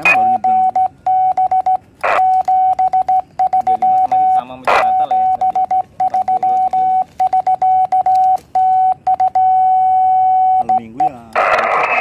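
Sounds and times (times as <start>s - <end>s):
morse code beeps: 0.0s - 12.0s.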